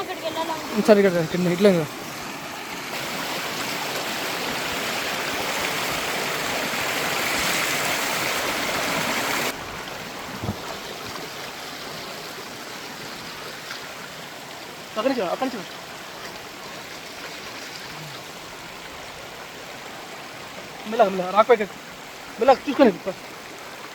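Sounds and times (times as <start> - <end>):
river water rushing over rocks: 0.0 - 23.9.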